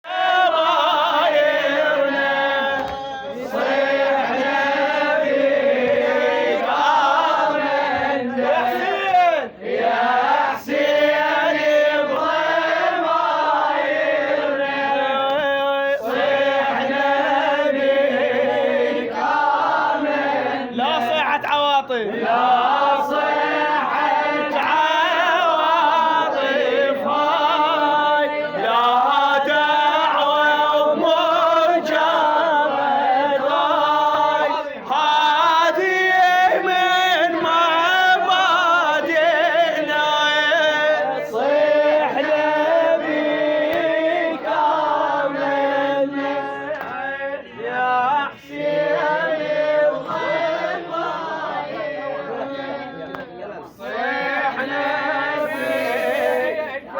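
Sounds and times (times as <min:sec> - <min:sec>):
men chanting devotional poem: 0:00.0 - 0:56.9.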